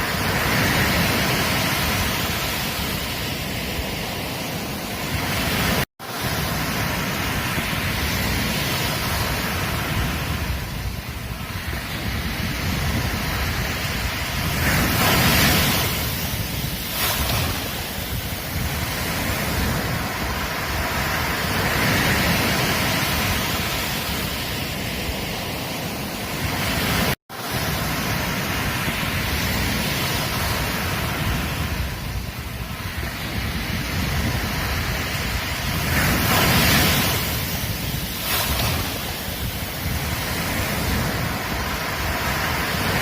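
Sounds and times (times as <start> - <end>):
ocean surf breaking: 0.0 - 43.0.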